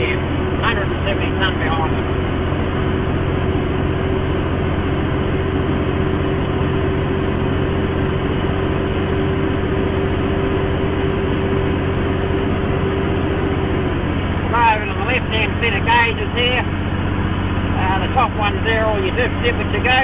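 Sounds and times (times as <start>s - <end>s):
diesel engine droning under load: 0.0s - 20.0s
engine whine: 0.0s - 20.0s.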